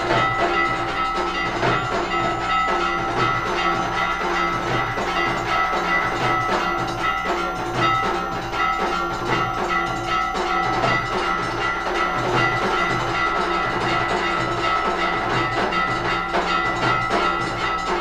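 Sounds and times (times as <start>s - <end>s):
metal bells clanging: 0.0s - 18.0s
repeating drum beat: 0.0s - 18.0s.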